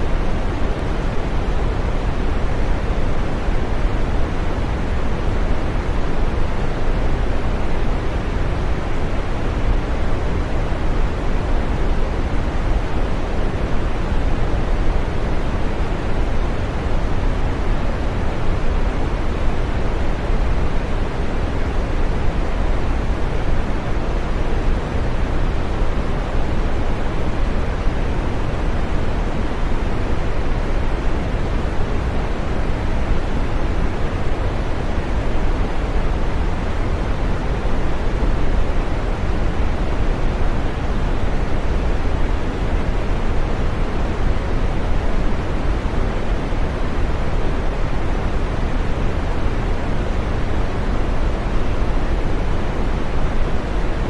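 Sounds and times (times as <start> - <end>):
steady green noise hiss: 0.0 - 54.0.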